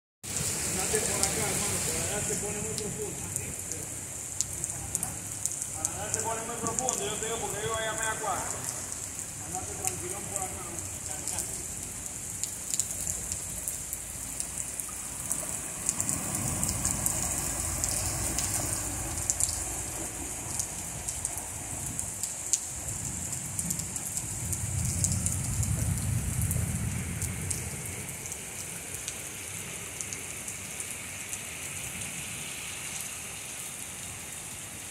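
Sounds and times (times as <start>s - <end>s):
heavy rain on street: 0.2s - 34.9s.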